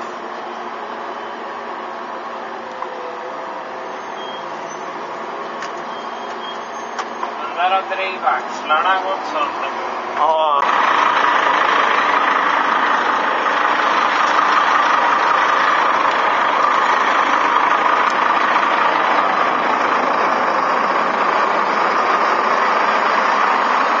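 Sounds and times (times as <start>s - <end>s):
truck engine from inside cab: 0.0s - 24.0s.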